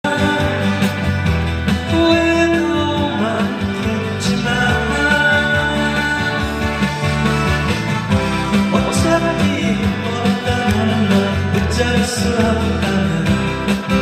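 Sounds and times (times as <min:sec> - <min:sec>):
live band playing trot song: 0:00.0 - 0:14.0.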